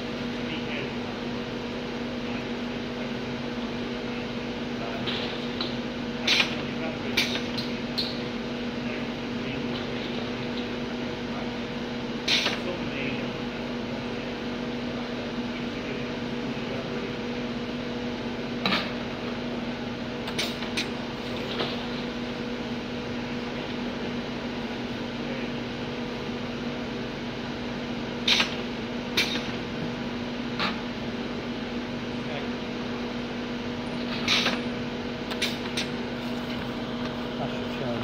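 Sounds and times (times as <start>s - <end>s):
bottling machine hum: 0.0s - 38.0s.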